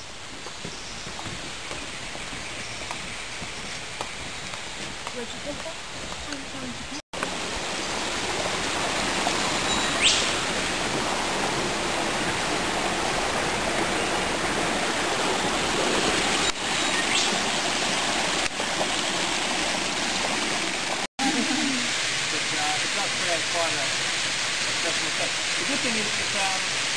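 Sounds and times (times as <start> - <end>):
creek and waterfall rushing: 0.0 - 26.9.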